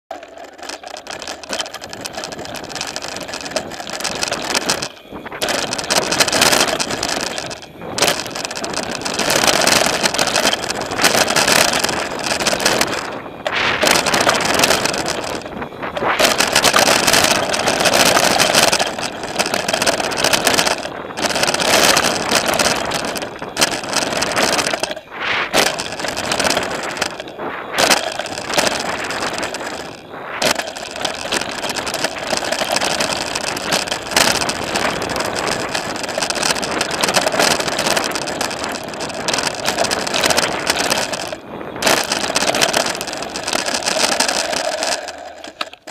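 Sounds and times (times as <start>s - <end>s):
tyre and wind noise: 0.1s - 45.9s.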